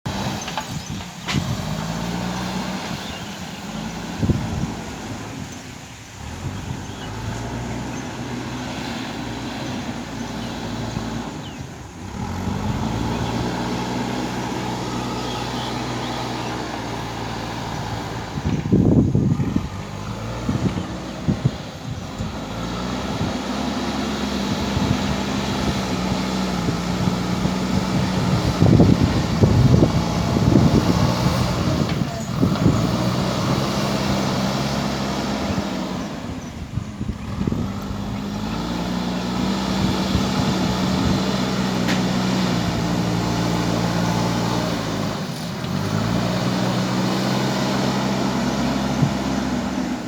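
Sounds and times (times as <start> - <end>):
diesel engine under load: 0.0 - 50.0.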